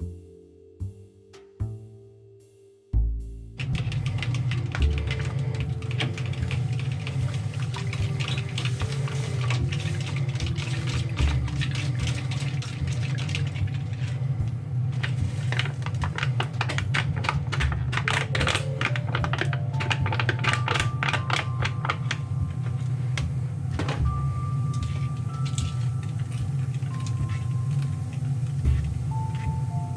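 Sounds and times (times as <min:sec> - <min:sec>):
background music melody: 0:00.0 - 0:29.9.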